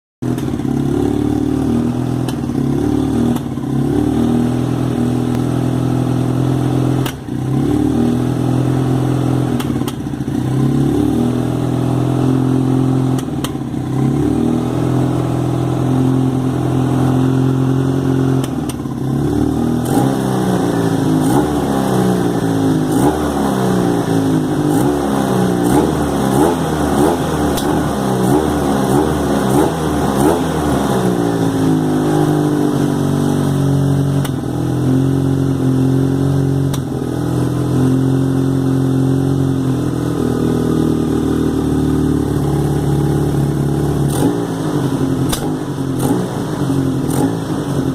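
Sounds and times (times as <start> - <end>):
motorcycle engine revving blips: 0.2 - 47.9
motorcycle engine running rough: 0.2 - 47.9.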